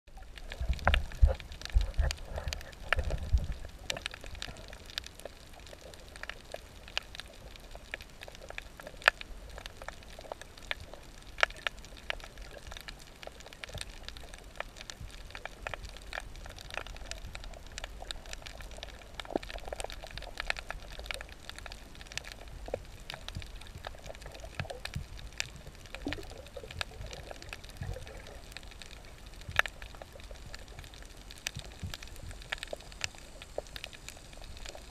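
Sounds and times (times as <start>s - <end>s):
muffled underwater hiss: 0.1s - 34.9s
sharp underwater clicks and crackles: 0.1s - 34.9s.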